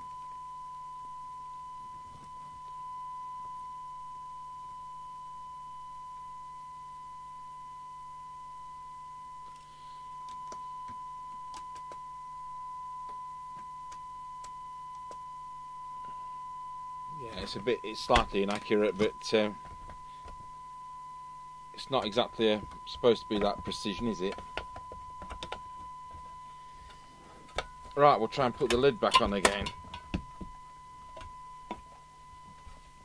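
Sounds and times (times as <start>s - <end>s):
steady test tone: 0.0s - 33.0s.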